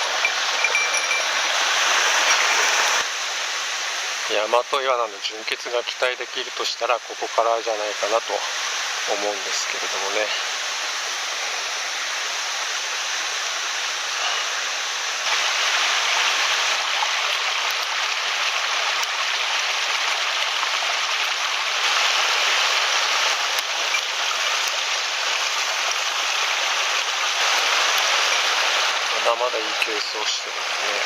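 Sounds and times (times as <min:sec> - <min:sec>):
water rushing from small waterfall: 0:00.0 - 0:31.0.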